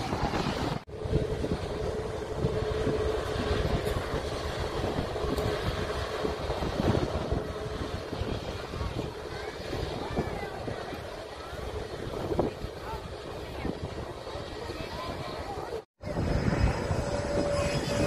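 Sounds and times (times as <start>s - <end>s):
distant jet engines rumbling: 0.0s - 18.0s
wind on microphone: 0.0s - 18.0s.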